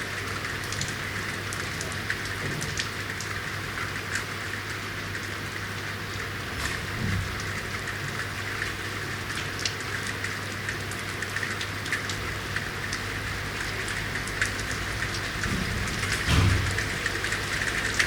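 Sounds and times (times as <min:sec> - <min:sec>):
rain on hard surfaces: 0:00.0 - 0:18.0.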